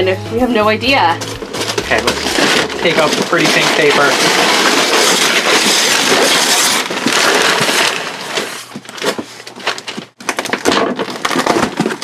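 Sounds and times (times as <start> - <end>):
wrapping paper tearing and crinkling: 1.4 - 12.0.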